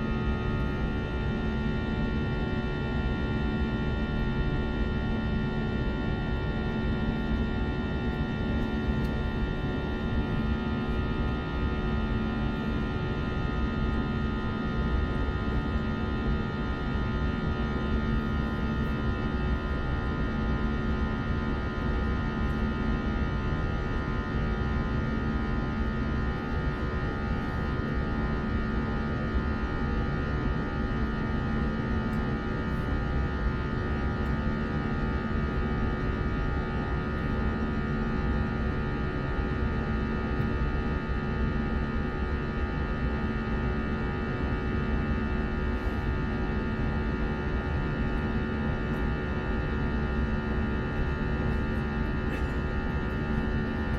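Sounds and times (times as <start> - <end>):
jet engines in aircraft cabin: 0.0 - 53.9.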